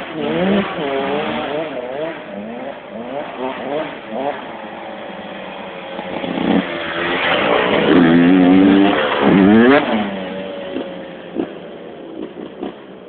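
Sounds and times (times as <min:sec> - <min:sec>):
motocross bike revving past: 0:00.0 - 0:12.9.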